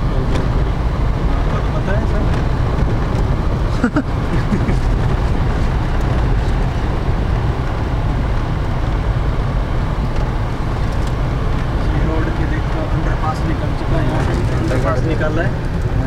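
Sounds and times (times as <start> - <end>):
vehicle driving on dirt road: 0.0 - 16.0.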